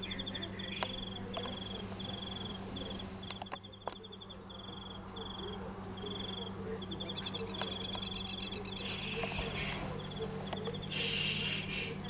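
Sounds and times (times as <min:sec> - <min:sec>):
cricket chirping: 0:00.0 - 0:11.2
low hum: 0:00.0 - 0:12.0.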